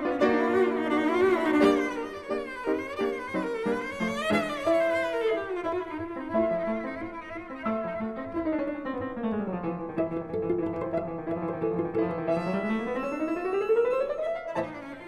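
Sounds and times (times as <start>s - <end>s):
bowed strings: 0.0s - 8.2s, 9.0s - 15.0s
piano: 0.0s - 15.0s.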